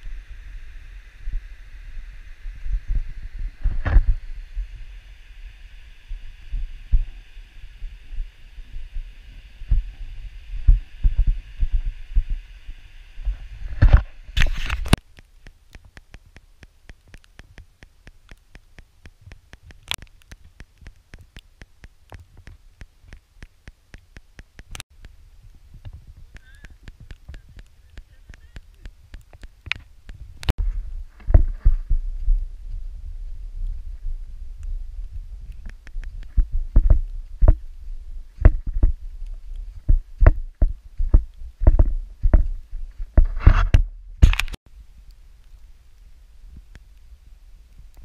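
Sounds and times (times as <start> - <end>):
steady hiss: 0.0 - 43.2, 44.0 - 48.0
wind and handling thumps: 2.5 - 4.8, 6.1 - 44.6.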